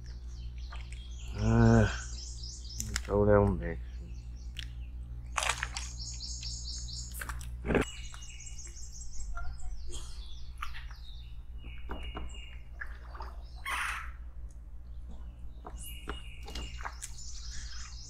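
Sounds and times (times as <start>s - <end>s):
songbirds chirping: 0.0s - 18.0s
steady low hum: 0.0s - 18.0s.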